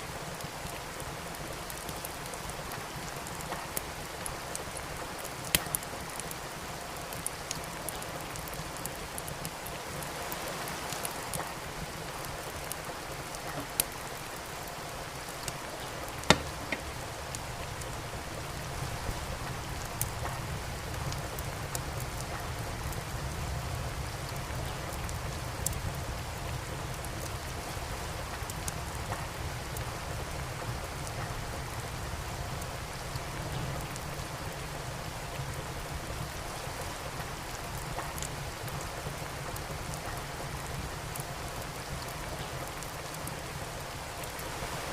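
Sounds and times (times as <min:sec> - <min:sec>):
steady rain falling: 0:00.0 - 0:44.9
wood fire crackling: 0:00.0 - 0:44.9.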